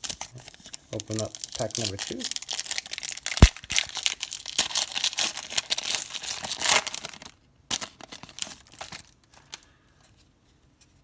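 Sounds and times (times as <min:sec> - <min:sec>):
foil wrapper tearing and crumpling: 0:00.0 - 0:09.6.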